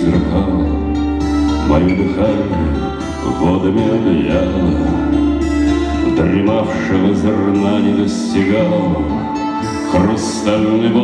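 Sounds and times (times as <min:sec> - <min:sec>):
acoustic guitar playing: 0:00.0 - 0:11.0
man singing: 0:00.0 - 0:11.0.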